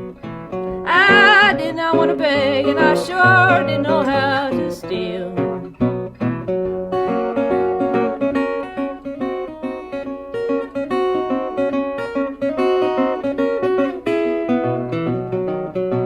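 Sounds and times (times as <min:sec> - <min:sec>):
acoustic blues guitar: 0:00.0 - 0:16.0.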